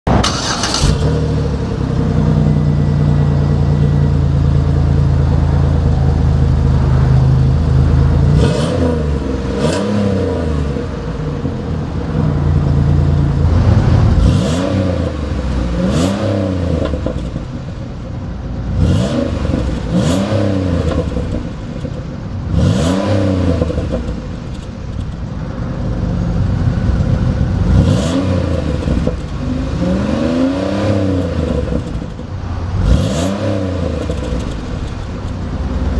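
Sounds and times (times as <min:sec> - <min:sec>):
car engine revving: 0:00.1 - 0:35.9
car engine starting and idling: 0:00.1 - 0:35.9.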